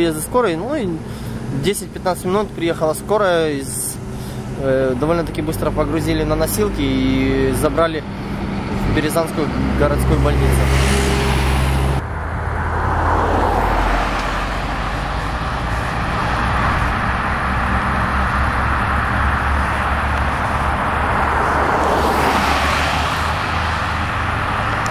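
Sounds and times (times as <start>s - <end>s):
vehicles passing on highway: 0.0s - 24.9s.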